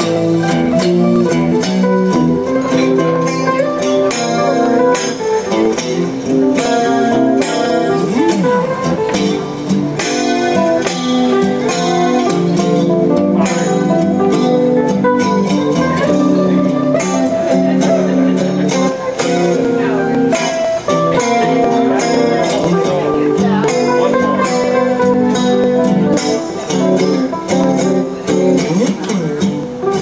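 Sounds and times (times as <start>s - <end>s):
blues guitar playing: 0.0s - 30.0s.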